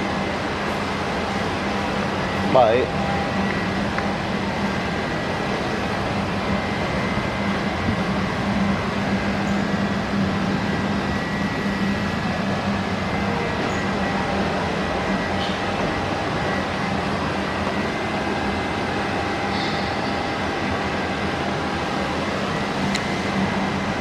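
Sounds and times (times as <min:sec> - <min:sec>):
workshop machinery drone: 0:00.0 - 0:24.0.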